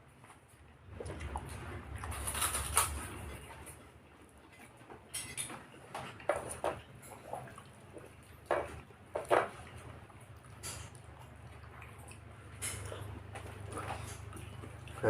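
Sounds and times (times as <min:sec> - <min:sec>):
person chewing with wet smacks: 0:00.8 - 0:03.8, 0:05.6 - 0:15.0.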